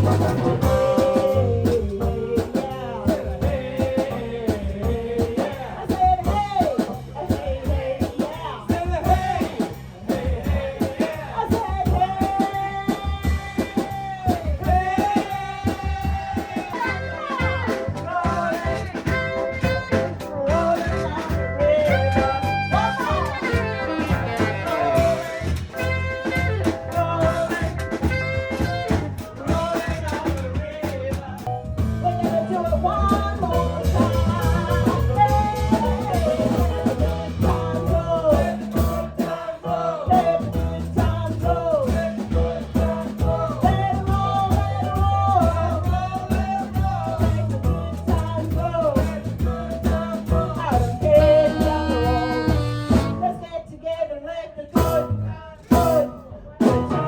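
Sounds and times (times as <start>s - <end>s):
live blues band playing: 0.0s - 53.4s, 54.8s - 57.0s
drums keeping a beat: 0.0s - 53.5s, 54.8s - 57.0s.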